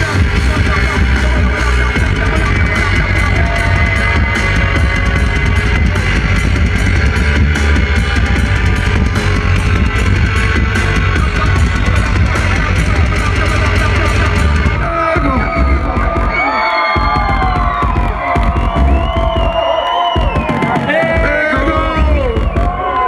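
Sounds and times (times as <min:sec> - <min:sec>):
crowd cheering: 0:00.0 - 0:23.0
loud live band music: 0:00.0 - 0:23.0
pounding bass line: 0:00.0 - 0:23.0.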